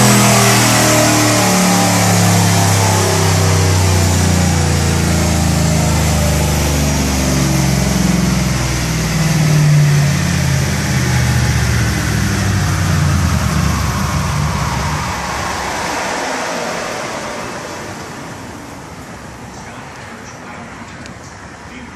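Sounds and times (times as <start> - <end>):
truck engine running: 0.0 - 21.6.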